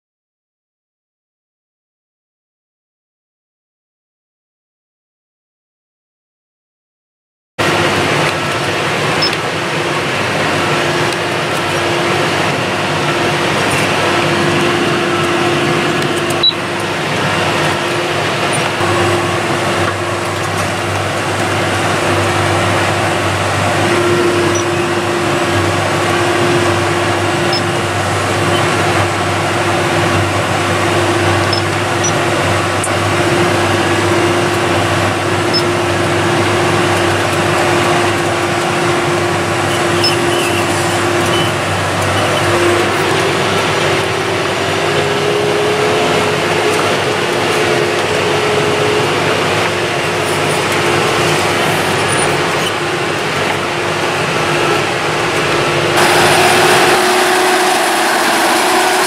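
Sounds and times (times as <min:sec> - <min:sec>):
tractor engine droning: 0:07.6 - 0:59.0.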